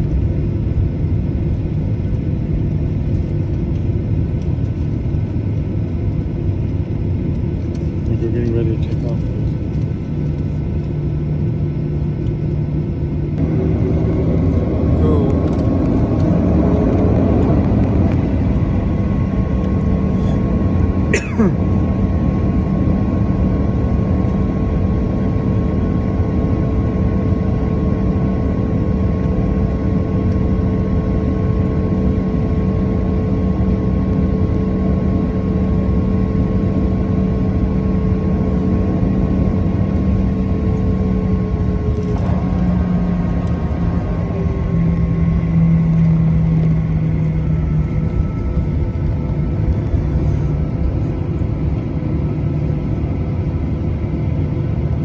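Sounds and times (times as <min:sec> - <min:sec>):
jet engine rumble: 0:00.0 - 0:55.0
steady hum tones: 0:00.0 - 0:55.0.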